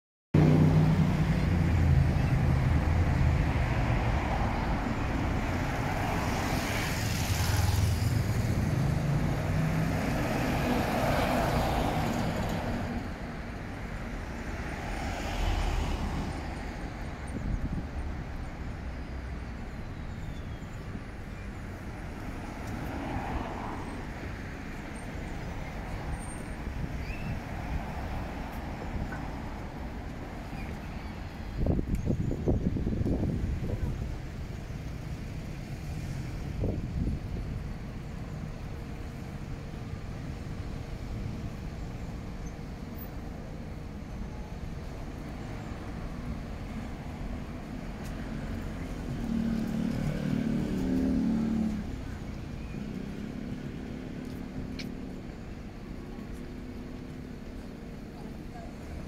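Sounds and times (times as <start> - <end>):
traffic passing: 0.4 - 59.0.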